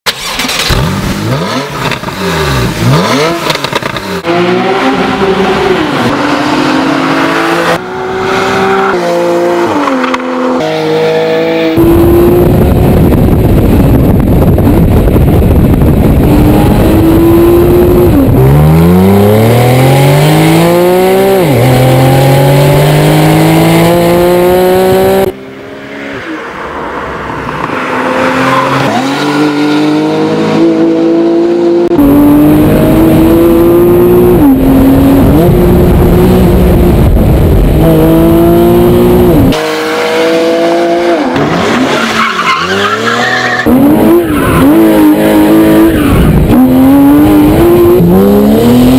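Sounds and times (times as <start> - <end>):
car engine revving and accelerating: 0.2 - 14.0, 15.6 - 48.9.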